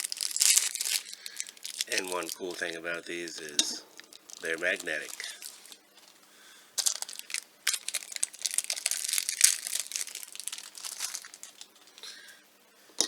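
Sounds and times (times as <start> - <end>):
plastic wrapping crinkling: 0.0 - 6.2, 6.8 - 12.3.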